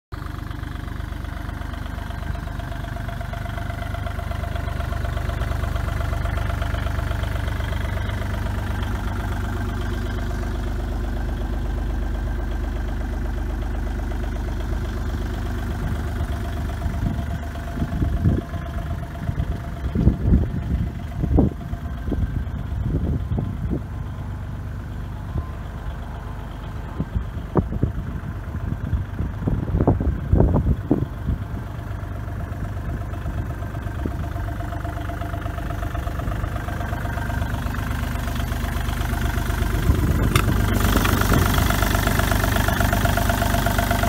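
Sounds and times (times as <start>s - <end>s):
excavator diesel engine idling: 0.1s - 44.0s.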